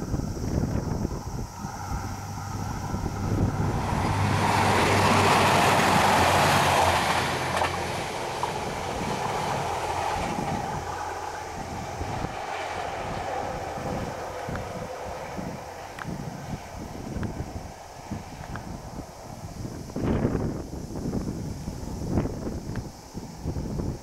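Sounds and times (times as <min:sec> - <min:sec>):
train passing: 0:00.0 - 0:23.4.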